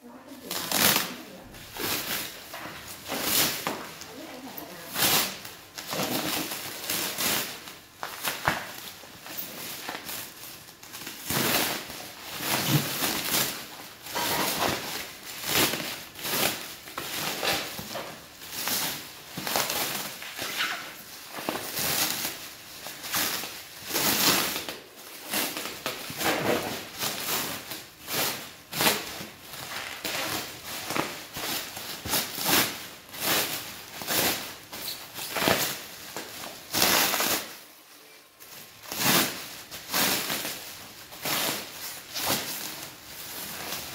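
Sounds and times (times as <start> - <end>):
plastic wrap crinkling and rustling: 0.0 - 43.9.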